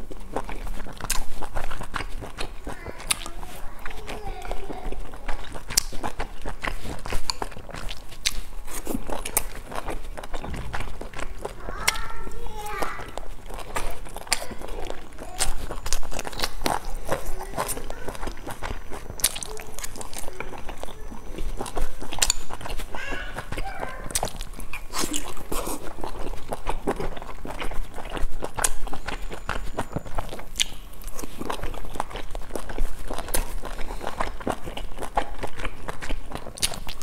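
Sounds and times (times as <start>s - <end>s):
chewing with wet mouth smacks: 0.0s - 37.0s.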